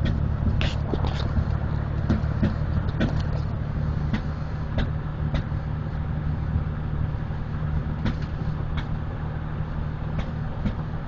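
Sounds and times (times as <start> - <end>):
truck engine under full throttle: 0.0 - 11.0.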